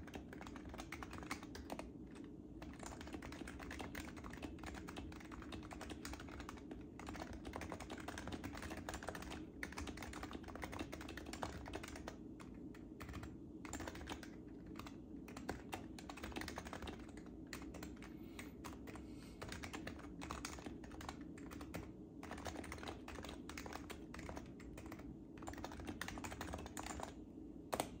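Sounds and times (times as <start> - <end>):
soft keyboard typing: 0.0 - 28.0.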